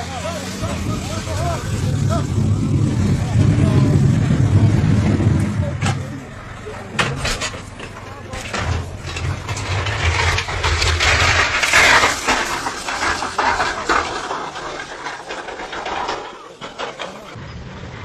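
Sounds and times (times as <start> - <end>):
wheel loader rumbling and crashing: 0.0 - 18.0.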